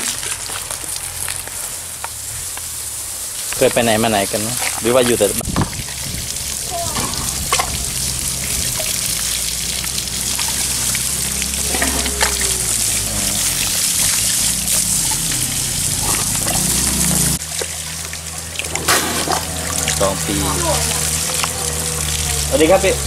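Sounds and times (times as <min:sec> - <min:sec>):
hose water splashing: 0:00.0 - 0:23.0.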